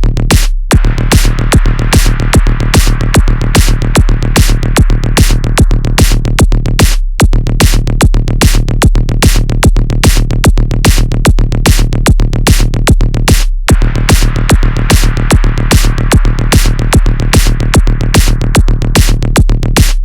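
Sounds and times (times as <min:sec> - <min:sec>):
deep bass: 0:00.0 - 0:20.0
drum machine beat: 0:00.0 - 0:20.0.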